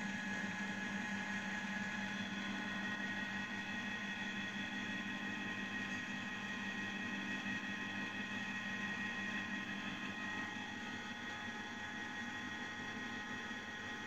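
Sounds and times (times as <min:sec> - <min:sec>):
low printer hum: 0:00.0 - 0:14.0.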